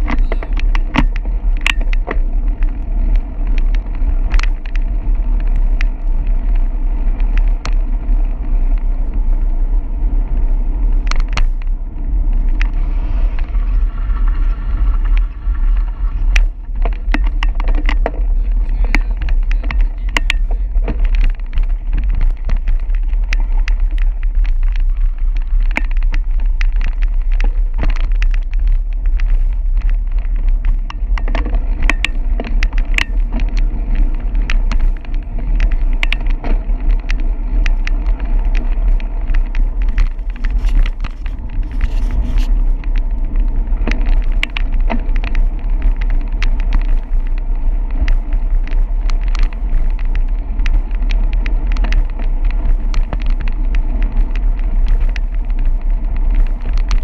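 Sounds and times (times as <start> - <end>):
bike rattling clicks and knocks: 0.0 - 57.0
wind rumbling on microphone: 0.0 - 57.0.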